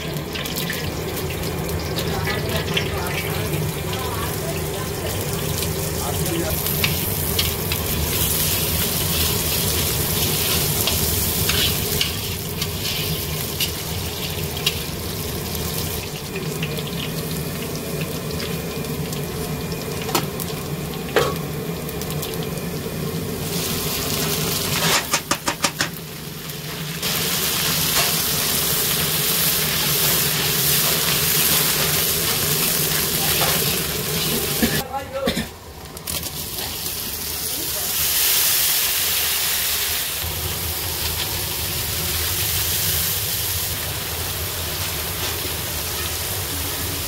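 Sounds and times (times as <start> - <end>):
vegetables frying in hot oil: 0.0 - 34.9, 35.8 - 47.0.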